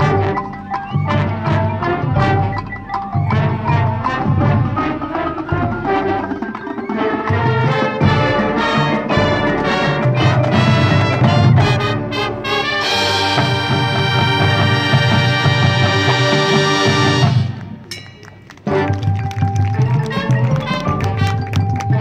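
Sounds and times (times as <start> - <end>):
drums: 0.0 - 22.0
mallet percussion: 0.0 - 22.0
marching band brass: 0.0 - 22.0.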